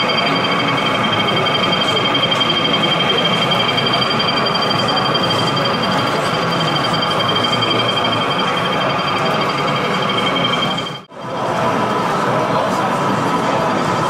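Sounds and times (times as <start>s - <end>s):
crowd chatter: 0.0s - 14.0s
high-pitched whine: 0.0s - 14.0s.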